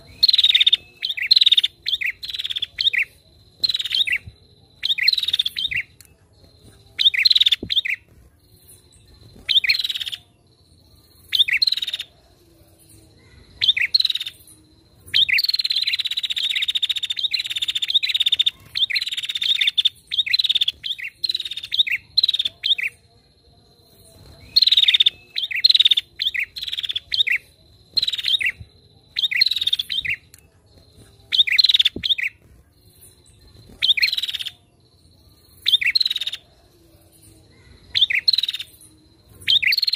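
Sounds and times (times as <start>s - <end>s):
bird rapid trill: 0.0s - 10.3s, 11.0s - 12.1s, 13.5s - 23.1s, 23.9s - 34.6s, 35.4s - 36.5s, 37.7s - 39.9s.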